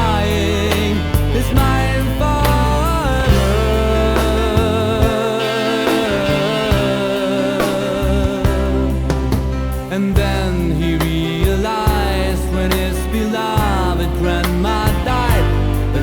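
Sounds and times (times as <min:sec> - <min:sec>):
bass: 0:00.0 - 0:16.0
steady drum beat: 0:00.0 - 0:16.0.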